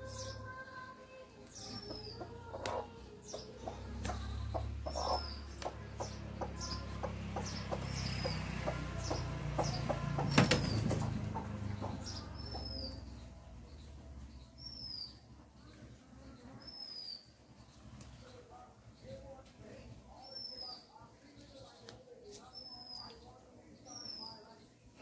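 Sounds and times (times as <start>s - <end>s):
bird chirping: 0.0s - 19.4s, 20.1s - 25.0s.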